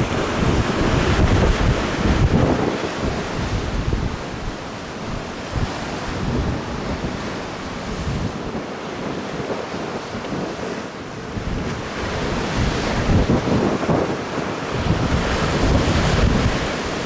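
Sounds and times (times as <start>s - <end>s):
choppy river water: 0.0s - 17.0s
wind buffeting microphone: 0.0s - 17.0s.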